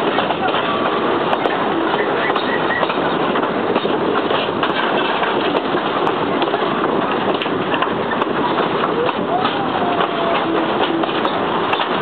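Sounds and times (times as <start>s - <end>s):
train rumbling and rattling: 0.0s - 12.0s.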